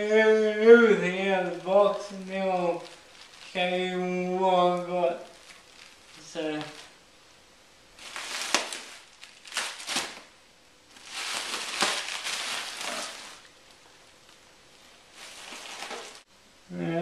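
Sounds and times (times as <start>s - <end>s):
bubble wrap crinkling: 0.0s - 7.2s, 7.9s - 16.3s.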